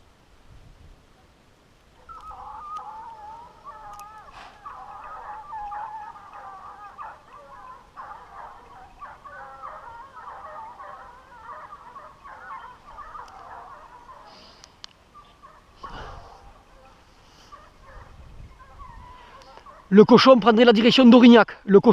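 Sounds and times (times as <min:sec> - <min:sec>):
hounds baying: 0:02.0 - 0:20.0.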